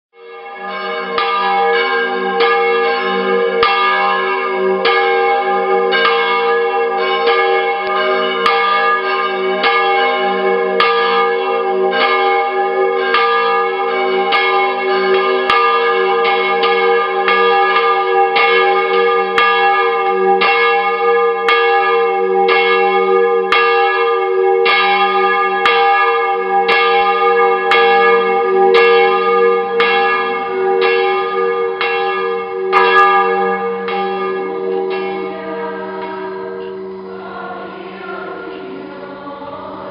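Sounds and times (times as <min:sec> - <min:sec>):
church bells pealing: 0:00.2 - 0:39.9.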